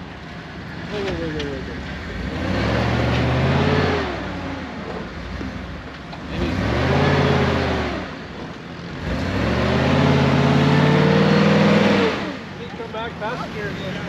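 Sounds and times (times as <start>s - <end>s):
engine revving under load: 0.9s - 14.0s.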